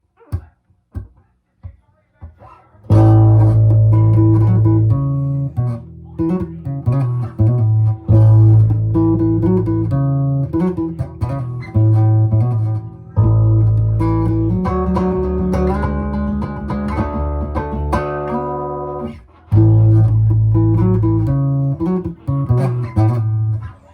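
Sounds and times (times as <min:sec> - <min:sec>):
guitar chords ringing: 0:02.9 - 0:23.9.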